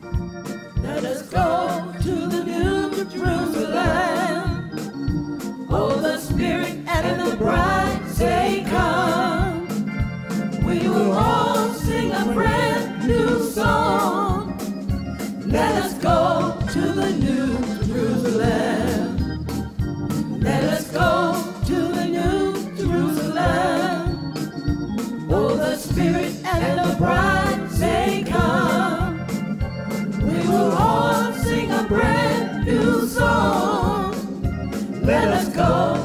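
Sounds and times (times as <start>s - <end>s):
gospel song with organ: 0.0s - 36.0s.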